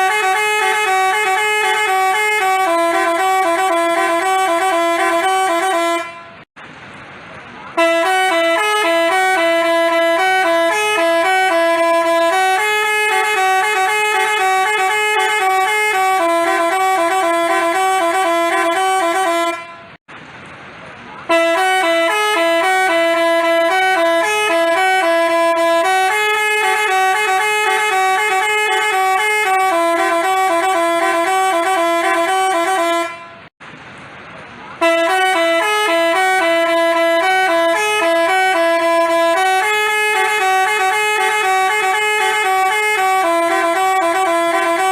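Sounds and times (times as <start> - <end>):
multi-tone horn playing a tune: 0.0 - 6.5, 7.8 - 20.0, 21.3 - 33.5, 34.8 - 44.9.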